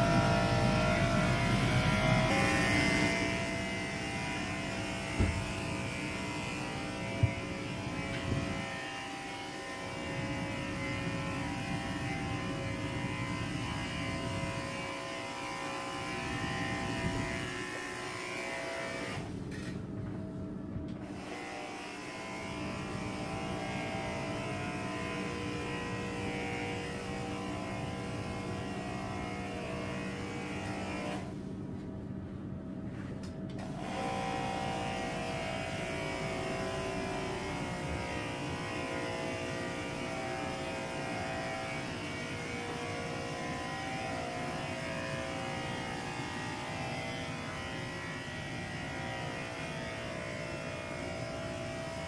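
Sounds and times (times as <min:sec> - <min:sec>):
electrostatic sprayer motor whine: 0:00.0 - 0:19.7, 0:21.0 - 0:31.4, 0:33.5 - 0:52.0.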